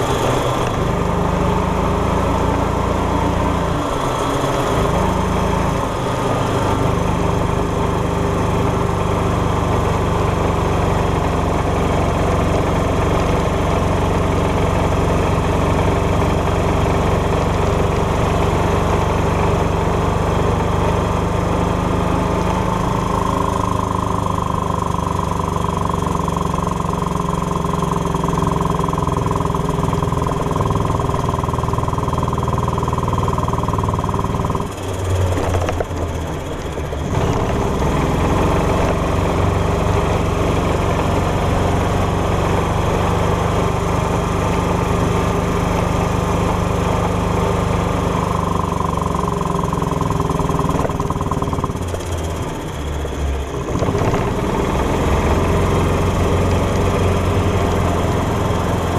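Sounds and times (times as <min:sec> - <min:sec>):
golf cart engine running: 0:00.0 - 0:58.9.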